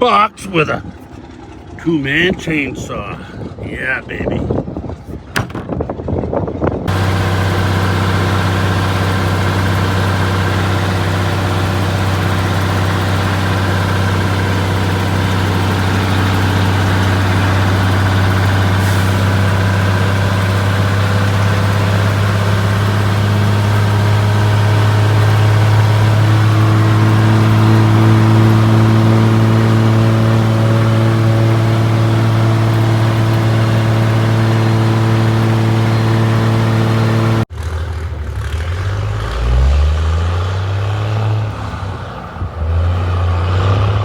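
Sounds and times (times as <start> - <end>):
truck engine droning: 0.0 - 44.0.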